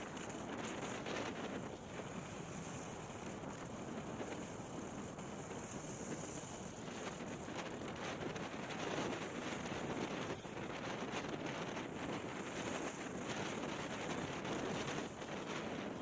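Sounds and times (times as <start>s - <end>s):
rush of travel across ice: 0.0s - 16.0s
wind buffeting microphone: 0.0s - 16.0s.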